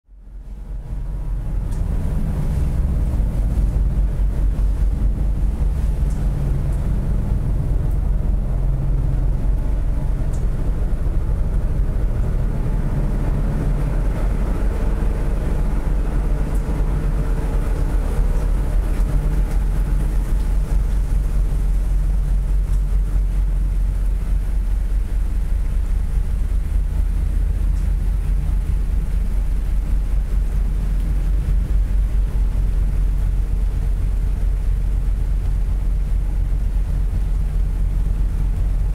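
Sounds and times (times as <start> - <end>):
diesel engines rumbling: 0.1 - 38.9.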